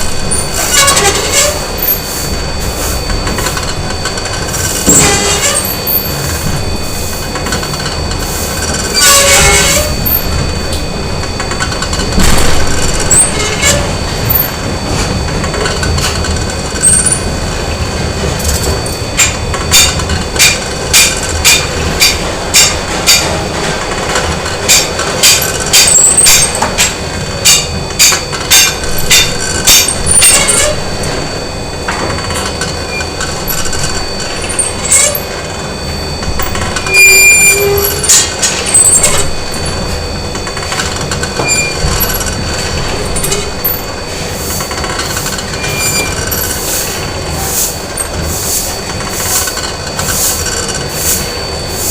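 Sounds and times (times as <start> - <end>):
factory machinery hum: 0.0 - 51.9
high steady tones: 0.0 - 51.9.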